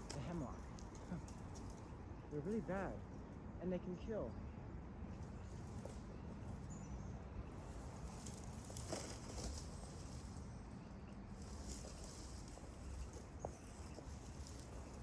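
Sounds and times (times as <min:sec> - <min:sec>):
rustling in dry plant stalks: 0:00.0 - 0:03.0, 0:05.1 - 0:15.0.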